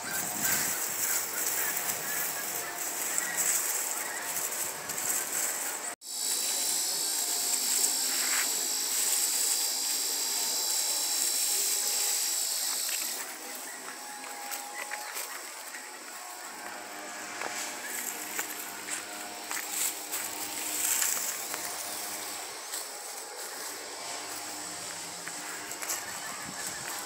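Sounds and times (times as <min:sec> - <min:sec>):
high-pitched buzz: 0:00.0 - 0:27.0.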